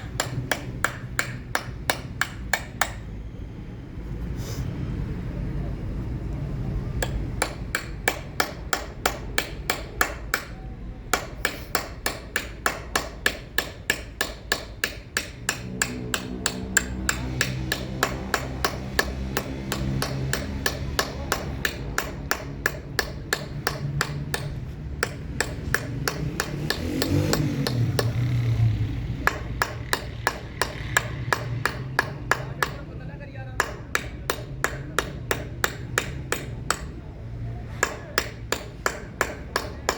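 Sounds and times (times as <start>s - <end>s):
hammer tapping chisel on stone: 0.0s - 3.0s, 7.0s - 28.4s, 29.2s - 32.9s, 33.5s - 37.1s, 37.8s - 39.9s.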